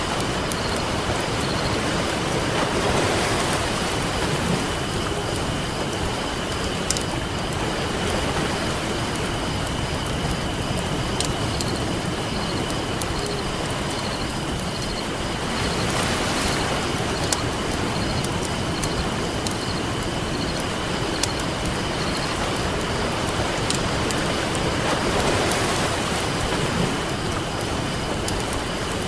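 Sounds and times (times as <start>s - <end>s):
campfire crackling and popping: 0.0s - 16.0s, 16.6s - 29.0s
ocean surf: 0.0s - 29.0s.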